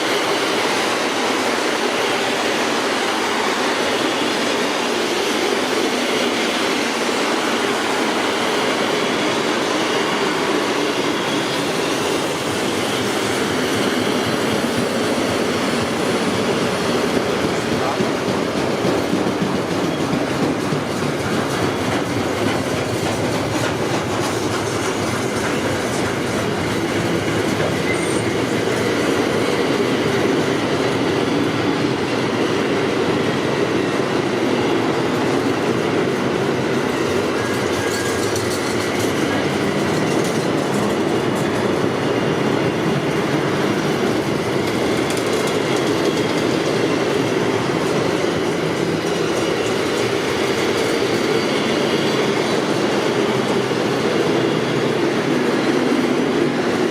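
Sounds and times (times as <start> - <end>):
clickety-clack over rail joints: 0.0 - 56.9
freight train wheels rumbling on rail: 0.0 - 56.9.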